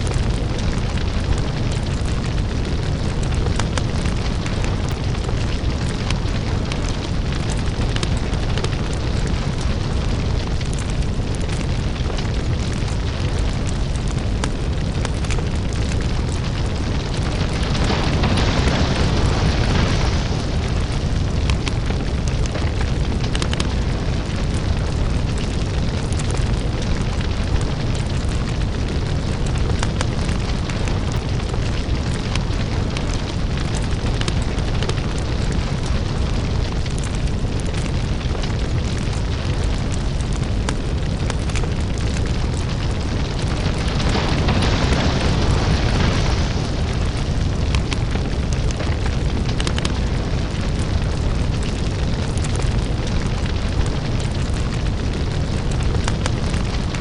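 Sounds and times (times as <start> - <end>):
deep steady rumble: 0.0 - 57.0
fire crackling and popping: 0.0 - 57.0.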